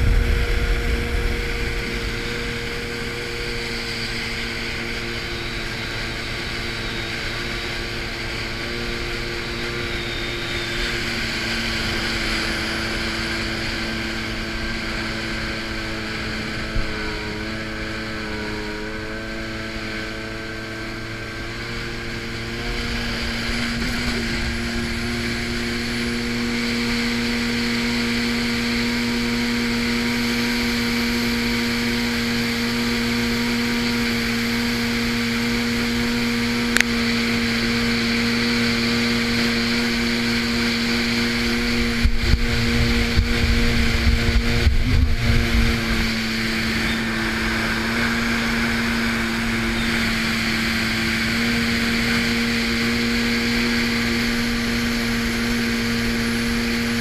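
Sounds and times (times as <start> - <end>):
jet ski engine running: 0.0 - 57.0.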